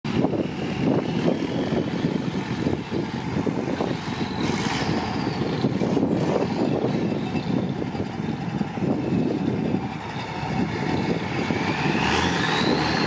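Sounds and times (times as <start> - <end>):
truck engine under load: 0.1 - 13.0.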